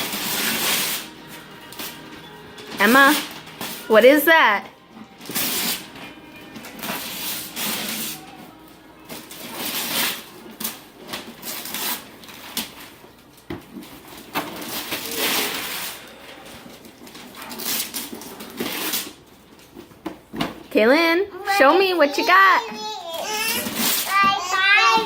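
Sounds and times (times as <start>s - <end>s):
wrapping paper rustling and tearing: 0.0s - 20.6s, 21.4s - 25.0s.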